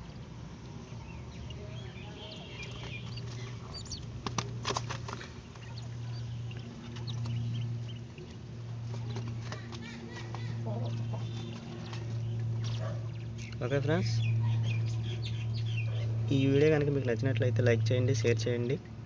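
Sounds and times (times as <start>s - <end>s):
quail chicks cheeping: 0.0s - 17.0s
low hum: 0.0s - 19.0s.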